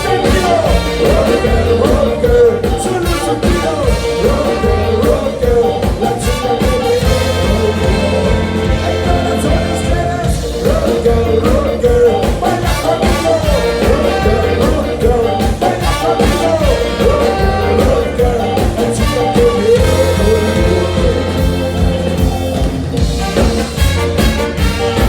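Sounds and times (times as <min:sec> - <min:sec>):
lead vocal singing: 0:00.0 - 0:25.0
live ska band playing: 0:00.0 - 0:25.0.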